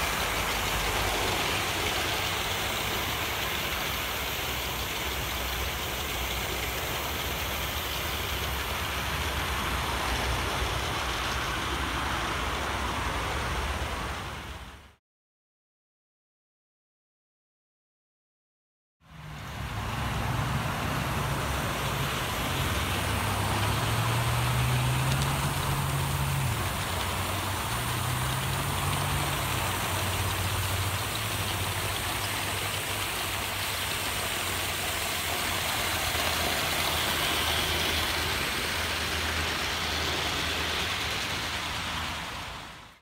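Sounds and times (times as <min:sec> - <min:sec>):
steam hiss and wheels rattling: 0:00.0 - 0:14.9, 0:19.1 - 0:43.0.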